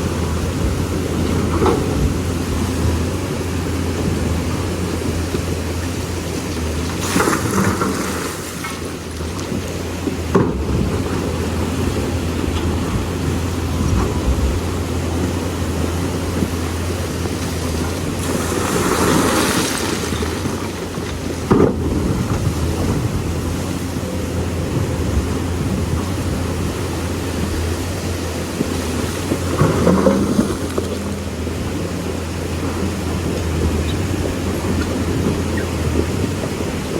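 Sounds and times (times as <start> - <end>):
excavator diesel engine: 0.0 - 36.9
river water rushing: 0.0 - 36.9
wind noise: 0.0 - 36.9.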